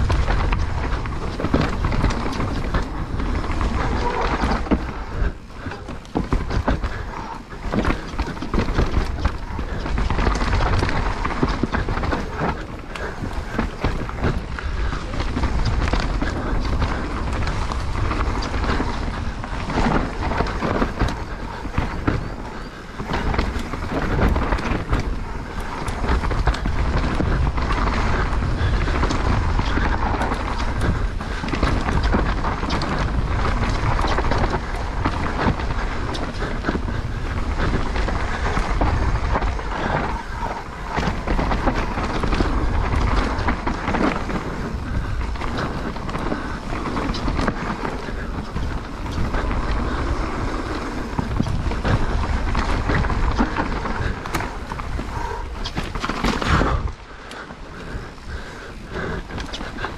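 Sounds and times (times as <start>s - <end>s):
bike clicks and rattles: 0.0s - 59.9s
bike tyres rumbling on dirt: 0.0s - 59.9s
wind buffeting microphone: 0.0s - 59.9s.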